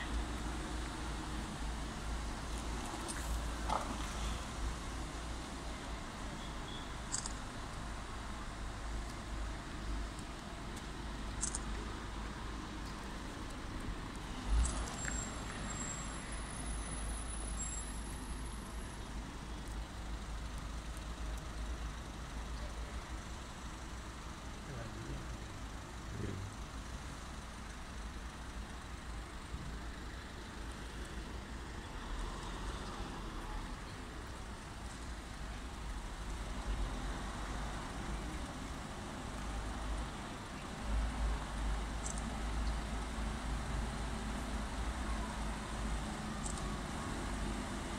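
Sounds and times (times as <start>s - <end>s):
road noise: 0.0s - 47.9s
truck engines rumbling: 0.0s - 47.9s.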